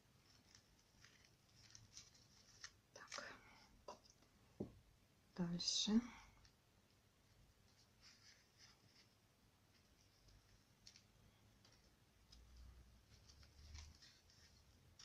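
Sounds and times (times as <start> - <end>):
small clicks and rustles: 0.0 - 4.3, 6.2 - 15.0.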